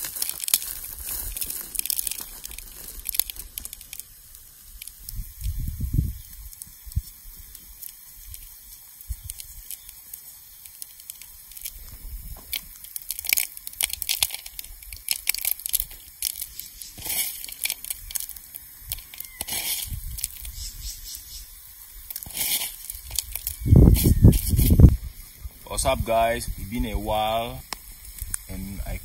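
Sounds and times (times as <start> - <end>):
dried chilies crunched by fingers: 0.0 - 20.7, 22.0 - 25.0, 27.6 - 28.5.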